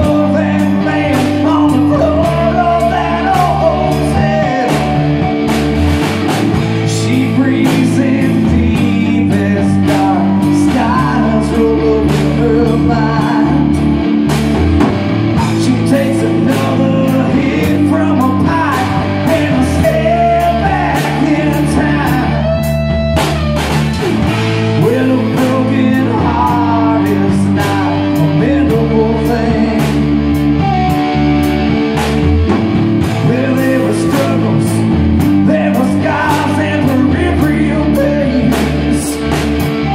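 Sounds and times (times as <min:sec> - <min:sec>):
person singing: 0:00.0 - 0:05.5, 0:06.6 - 0:14.0, 0:15.4 - 0:22.9, 0:23.9 - 0:31.2, 0:33.0 - 0:39.9
bass guitar: 0:00.0 - 0:39.9
drum kit beat: 0:00.0 - 0:39.9
electric guitar: 0:00.0 - 0:39.9.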